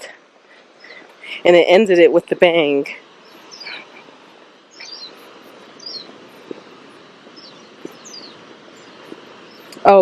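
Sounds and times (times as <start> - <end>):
waterfall rushing: 0.0 - 10.0
bird chirping: 0.5 - 10.0.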